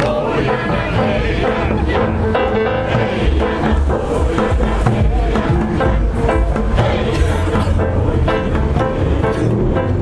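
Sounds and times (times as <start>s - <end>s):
group singing a song: 0.0s - 10.0s.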